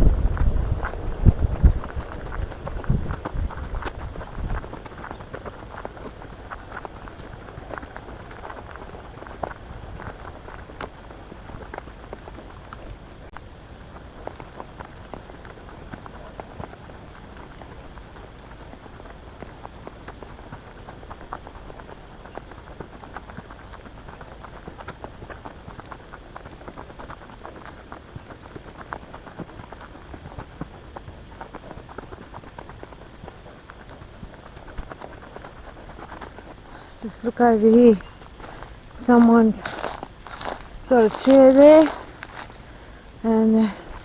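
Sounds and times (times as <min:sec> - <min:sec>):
footsteps crunching on dry ground: 0:00.0 - 0:44.0.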